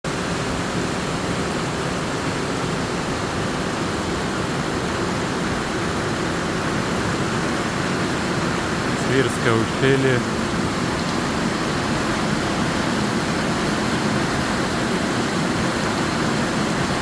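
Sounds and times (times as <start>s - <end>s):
waterfall rushing: 0.1s - 17.0s.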